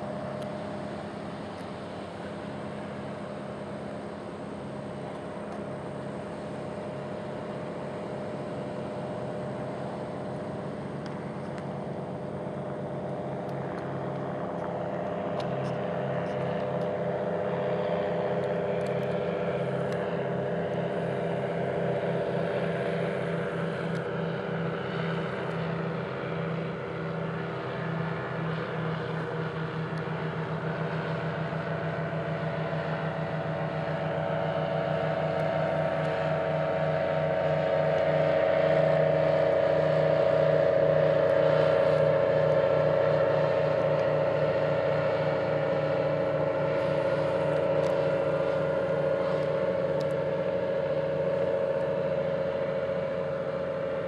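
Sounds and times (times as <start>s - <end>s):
ultralight aircraft engine droning: 0.0s - 54.0s.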